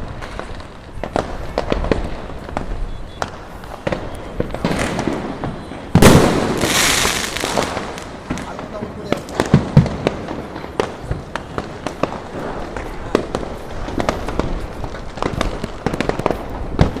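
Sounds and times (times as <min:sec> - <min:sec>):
deep firework booms: 0:00.0 - 0:17.0
fireworks bangs and pops: 0:00.0 - 0:17.0.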